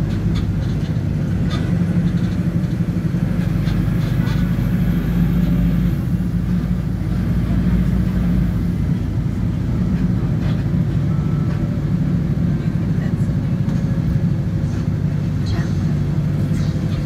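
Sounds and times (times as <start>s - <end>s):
vehicle engine and tyres rumbling: 0.0s - 17.0s.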